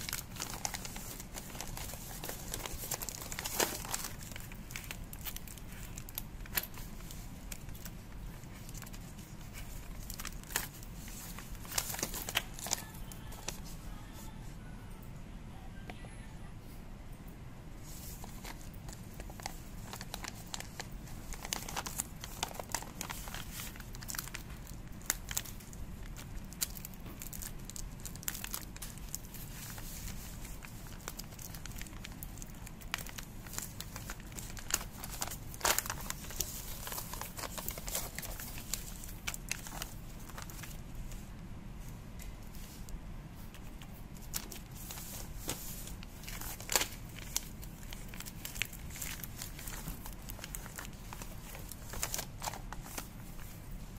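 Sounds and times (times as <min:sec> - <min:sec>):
paper and plastic wrapping rustling: 0:00.0 - 0:14.4, 0:17.8 - 0:53.9.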